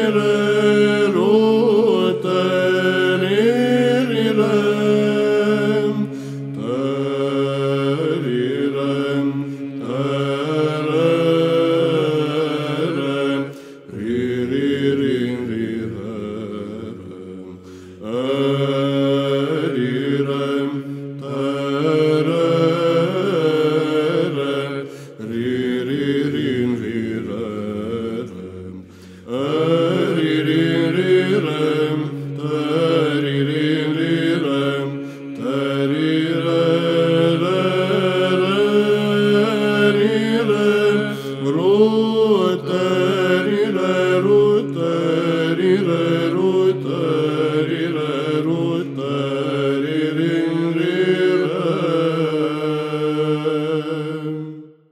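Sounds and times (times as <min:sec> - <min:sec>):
low held vocal drone: 0:00.0 - 0:54.7.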